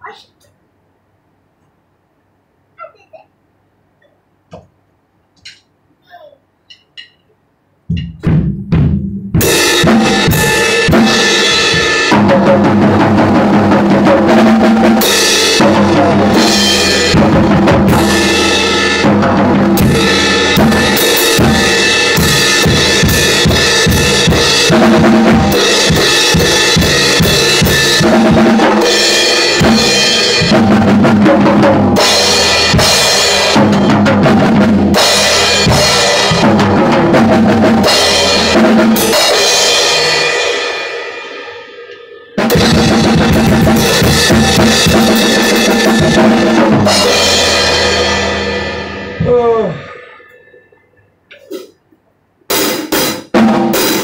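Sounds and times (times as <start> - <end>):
drum kit playing fast beat: 7.9 - 50.2, 52.5 - 54.0.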